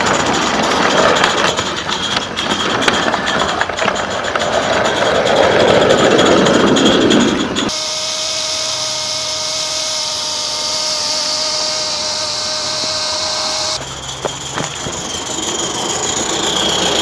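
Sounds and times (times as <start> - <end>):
steam locomotive hissing: 0.0 - 17.0
thin steady tone: 0.0 - 17.0.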